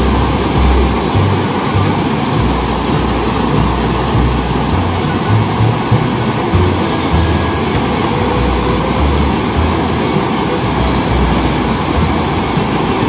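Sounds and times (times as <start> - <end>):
low rumble: 0.0 - 13.0
water rushing: 0.0 - 13.0.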